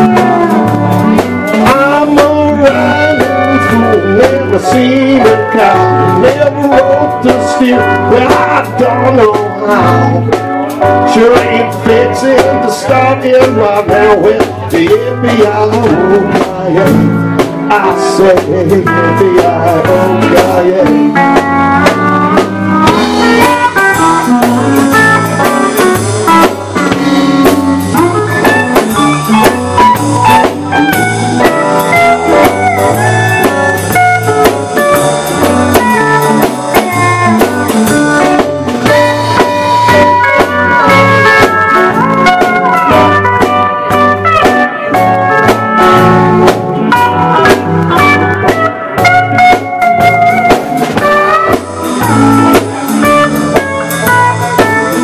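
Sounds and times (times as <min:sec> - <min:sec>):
drum kit beat: 0:00.0 - 0:55.0
electric bass: 0:00.0 - 0:55.0.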